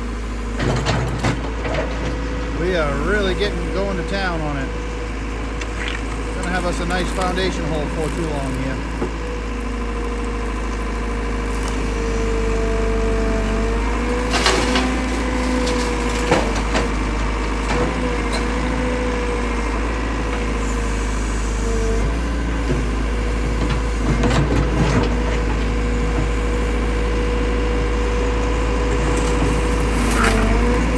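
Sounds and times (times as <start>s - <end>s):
backhoe engine running: 0.0s - 30.9s
hydraulic whine: 0.0s - 30.9s.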